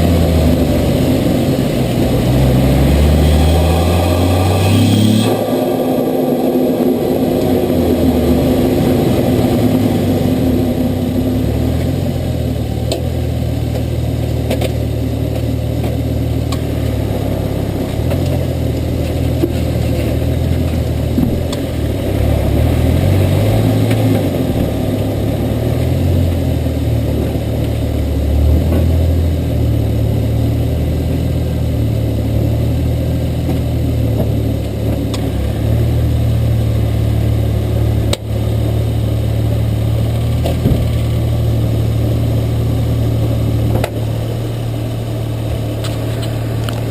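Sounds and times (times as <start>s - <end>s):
car engine running at low revs: 0.0s - 46.9s.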